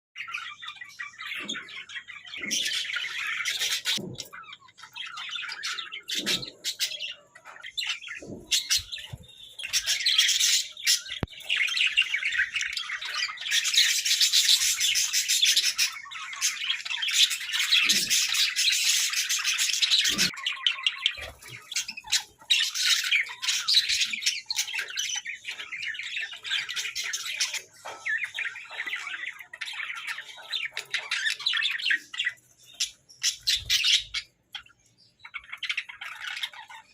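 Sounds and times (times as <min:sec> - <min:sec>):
budgerigars chattering and warbling: 0:00.2 - 0:36.9.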